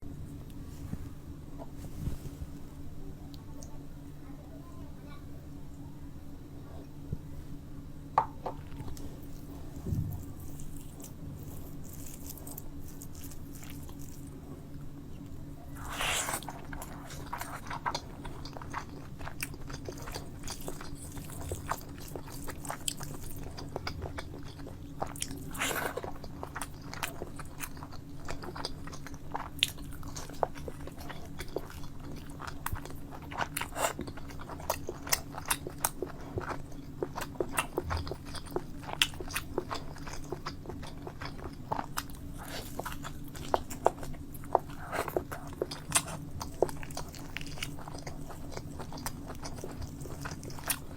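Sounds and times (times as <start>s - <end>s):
steady low hum: 0.0s - 50.9s
person chewing food: 8.2s - 14.6s, 15.2s - 50.9s.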